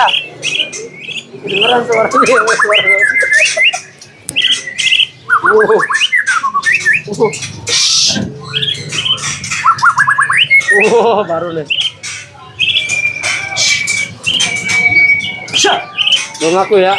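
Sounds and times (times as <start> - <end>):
songbird whistling and trilling: 0.0 - 16.9.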